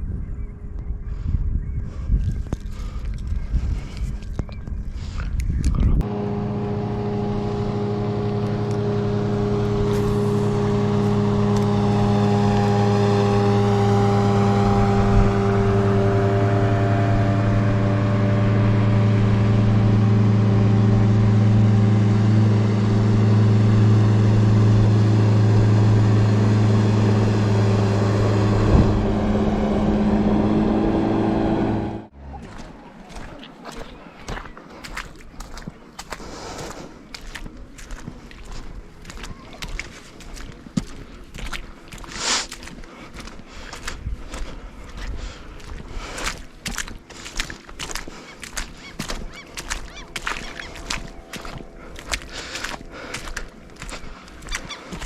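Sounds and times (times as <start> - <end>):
engine droning steadily: 5.1 - 55.0.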